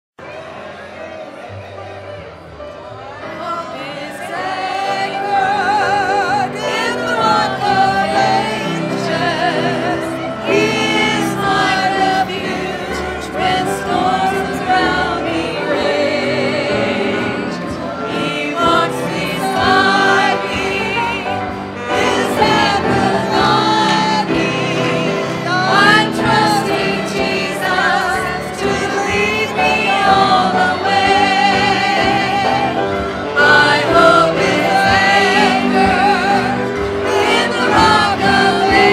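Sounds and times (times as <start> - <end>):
gospel choir singing: 3.0 - 38.9.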